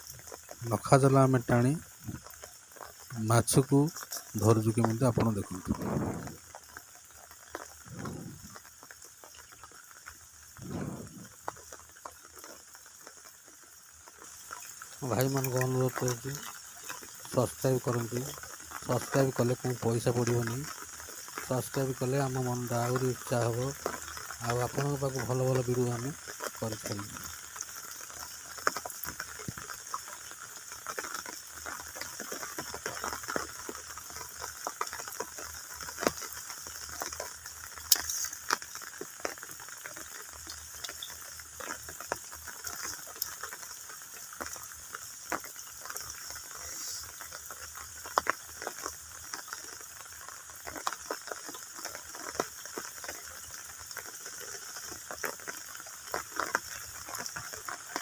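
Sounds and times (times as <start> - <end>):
faint steady hiss: 0.0 - 58.0
water dripping: 0.0 - 58.0.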